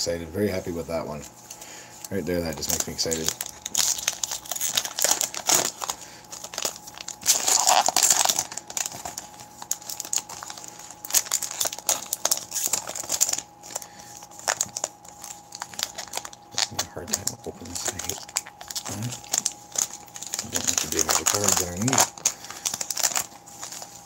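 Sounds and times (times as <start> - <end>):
foil wrapper crinkling and tearing: 0.4 - 24.0.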